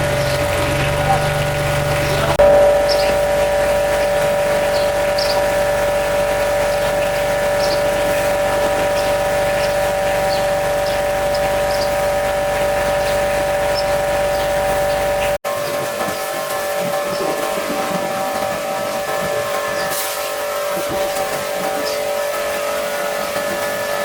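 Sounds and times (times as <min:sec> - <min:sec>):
pressure washer whine: 0:00.0 - 0:24.0.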